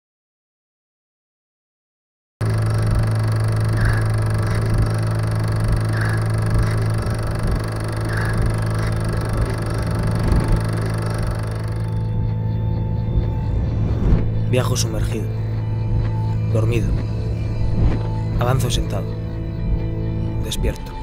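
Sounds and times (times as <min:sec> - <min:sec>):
noisy rumble: 0:02.4 - 0:20.3
steady low hum: 0:02.4 - 0:20.6.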